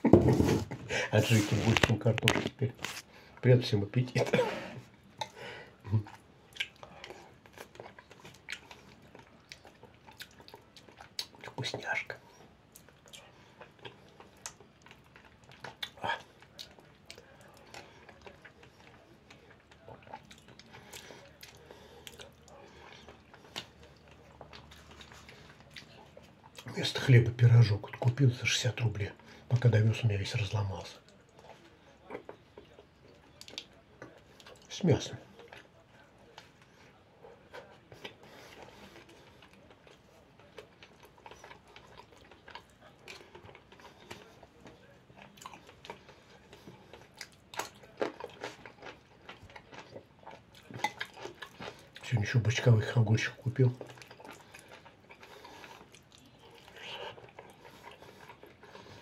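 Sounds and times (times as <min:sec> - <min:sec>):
man chewing: 0:04.2 - 0:26.7, 0:31.0 - 0:59.0.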